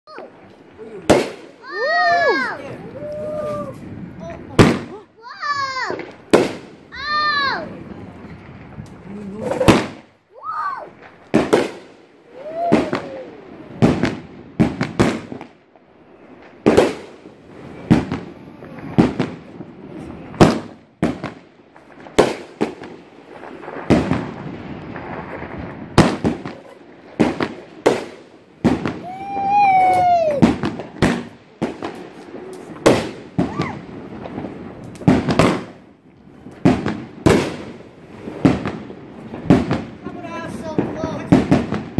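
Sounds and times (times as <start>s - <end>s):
firework cake bangs: 0.8s - 15.6s, 16.4s - 41.9s.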